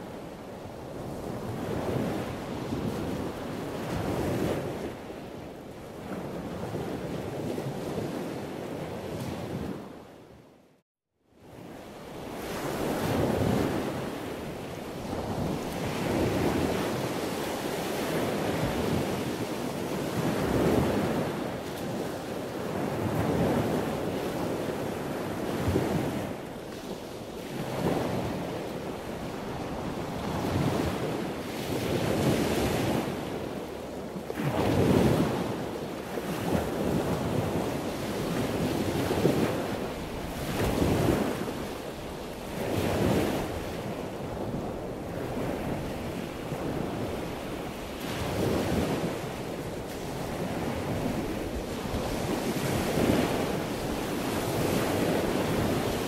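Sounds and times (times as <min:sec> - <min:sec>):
wind on microphone: 0:00.0 - 0:10.6, 0:11.4 - 0:56.0.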